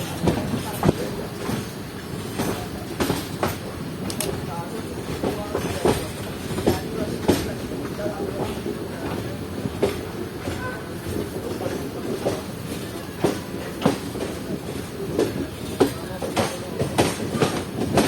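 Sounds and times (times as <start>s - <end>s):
train rumbling: 0.0s - 18.0s
wheels clacking over rail joints: 0.0s - 18.0s.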